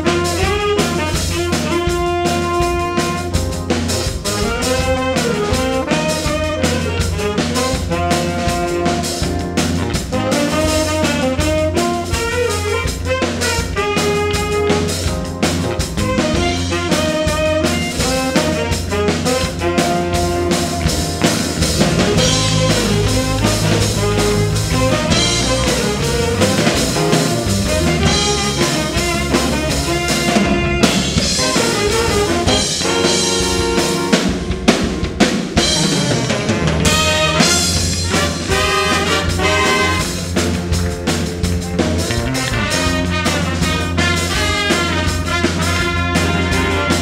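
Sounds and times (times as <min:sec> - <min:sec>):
big band playing jazz: 0:00.0 - 0:47.0
drum kit: 0:00.0 - 0:47.0
trumpets and trombones: 0:00.0 - 0:47.0.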